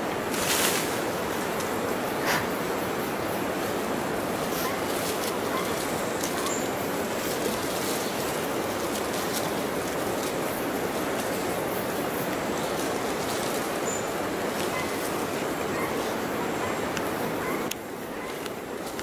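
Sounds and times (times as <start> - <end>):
rushing forest background noise: 0.0 - 19.0.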